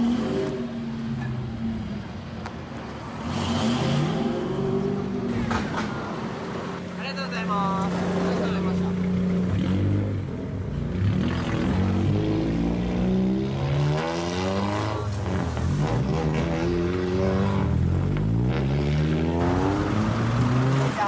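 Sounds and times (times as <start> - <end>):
cars accelerating away: 3.0 - 6.8, 7.8 - 21.0.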